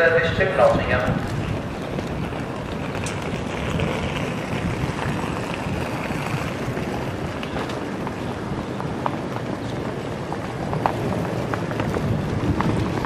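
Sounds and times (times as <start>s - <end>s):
train engine rumbling: 0.0s - 13.0s
wind on microphone: 0.0s - 13.0s.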